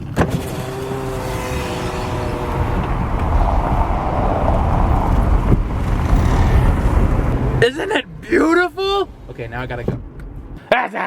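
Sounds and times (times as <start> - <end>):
road and wind noise: 0.0 - 10.6.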